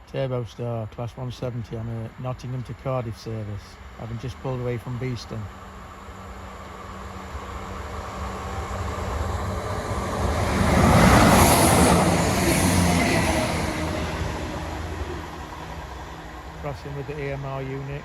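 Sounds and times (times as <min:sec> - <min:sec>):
train engine hum: 0:00.0 - 0:18.0.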